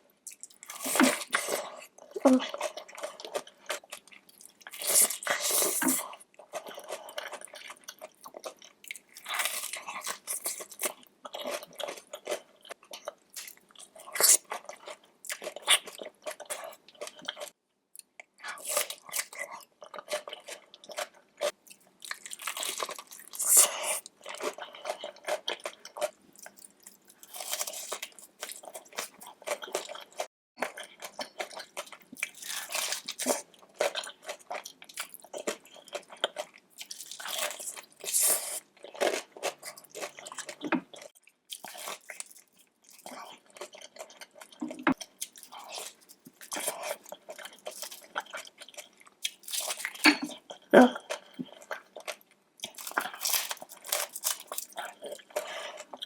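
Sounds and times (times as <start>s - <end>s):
wet chewing and crunching: 0.3s - 56.0s.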